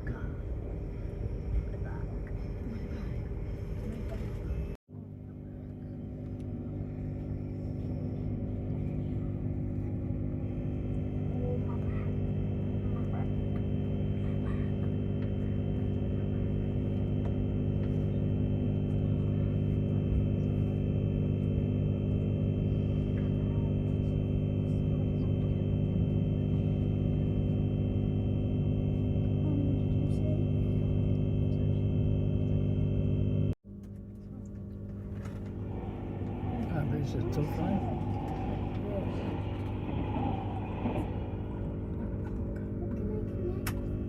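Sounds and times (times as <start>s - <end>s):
train drone inside carriage: 0.0s - 33.6s, 34.3s - 44.0s
high whine: 5.9s - 33.6s, 34.7s - 44.0s.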